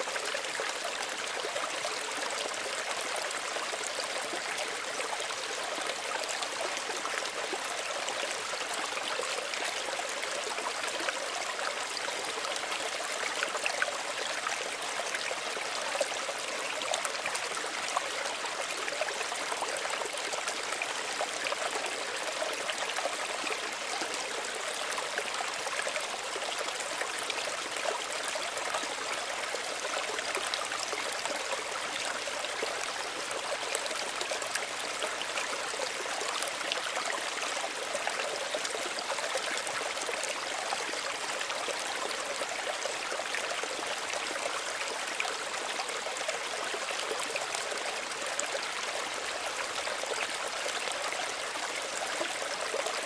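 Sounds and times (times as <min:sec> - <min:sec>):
stream running over stones: 0:00.0 - 0:53.0.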